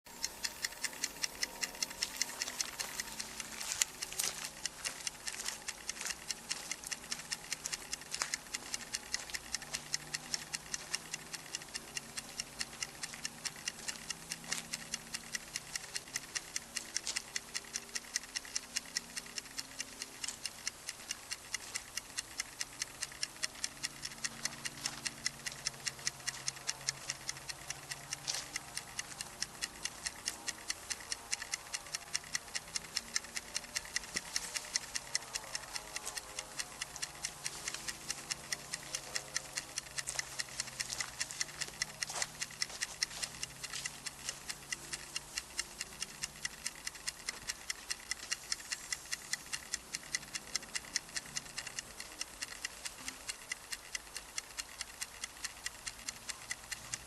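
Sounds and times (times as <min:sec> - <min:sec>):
rapid mechanical ticking: 0:00.0 - 0:57.0.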